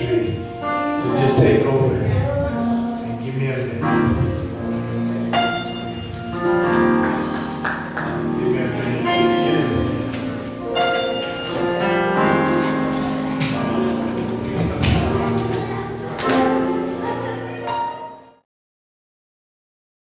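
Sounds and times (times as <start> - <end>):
church music sustained chords: 0.0 - 18.5.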